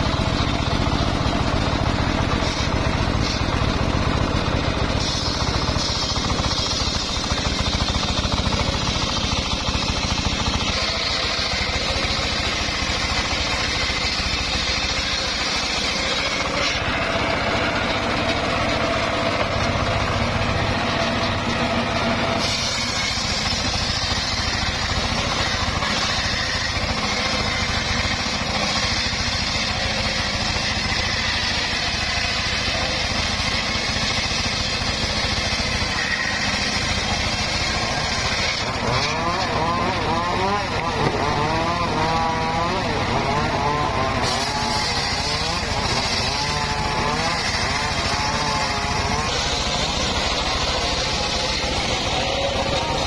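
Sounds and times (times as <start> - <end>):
circular sawmill sawing wood: 0.0 - 53.0.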